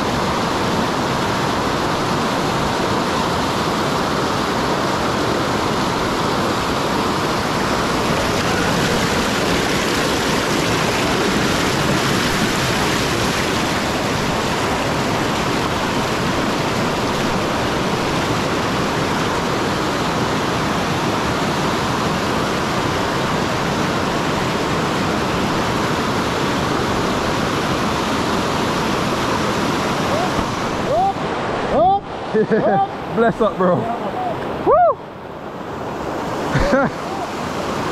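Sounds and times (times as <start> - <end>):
water rushing over rocks: 0.0 - 37.9.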